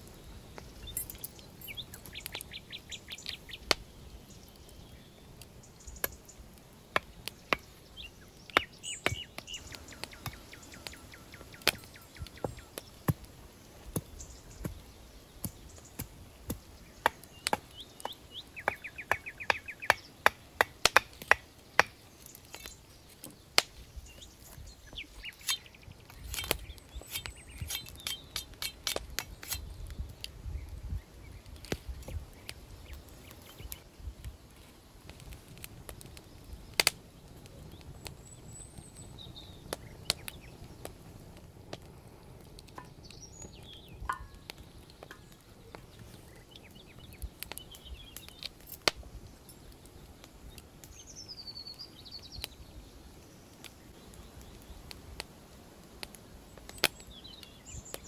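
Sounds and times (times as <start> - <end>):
birds chirping: 0.0 - 35.0, 35.8 - 55.0, 56.4 - 58.0.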